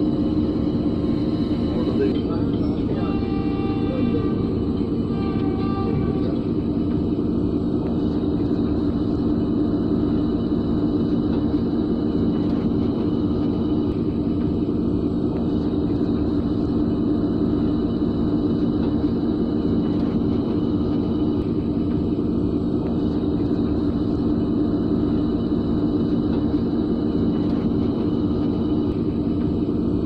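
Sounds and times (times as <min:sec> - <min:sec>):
diesel locomotive engine rumbling: 0:00.0 - 0:30.0.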